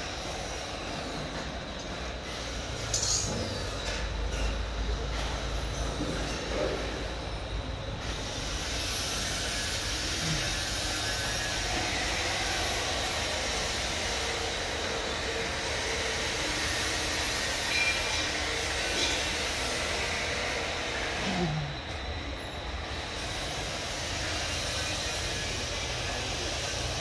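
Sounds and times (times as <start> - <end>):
fryer machine running: 0.0 - 27.0.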